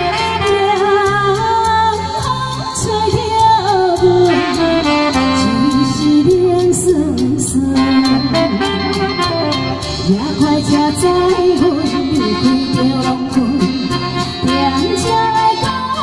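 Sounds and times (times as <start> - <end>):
backing track with drum beat: 0.0 - 16.0
saxophone: 0.0 - 16.0
woman singing through microphone: 0.0 - 16.0.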